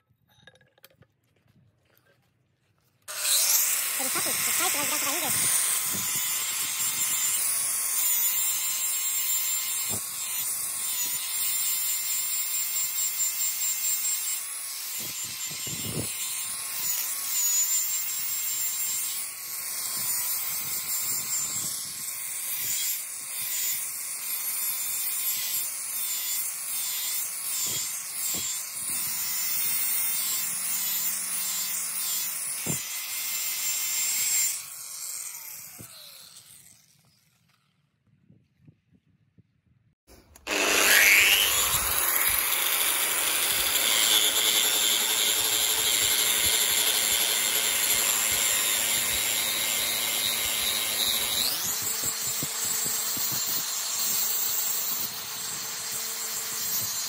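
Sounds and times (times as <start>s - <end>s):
angle grinder grinding steel: 3.1s - 37.7s, 40.1s - 57.0s.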